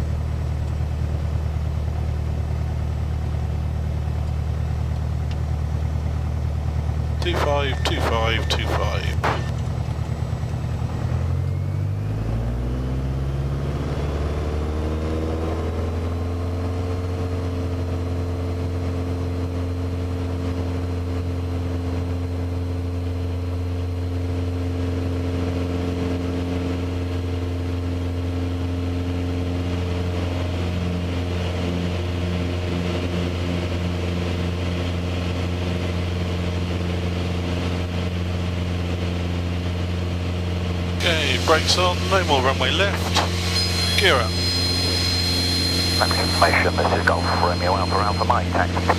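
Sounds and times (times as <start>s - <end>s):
light aircraft engine and propeller: 0.0s - 48.9s.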